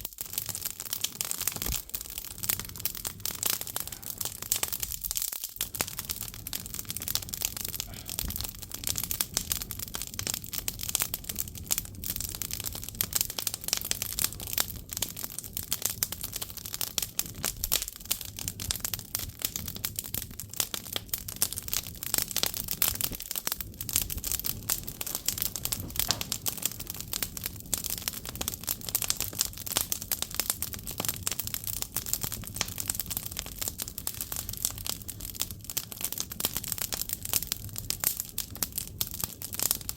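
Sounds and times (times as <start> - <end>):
firewood crackling and snapping: 0.0 - 39.9
low fire hiss: 0.0 - 39.9.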